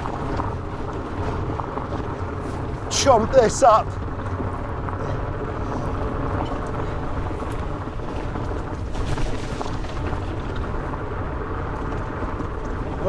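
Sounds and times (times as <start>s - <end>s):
bike tyres rumbling on dirt: 0.0s - 13.0s
wind buffeting microphone: 0.0s - 13.0s.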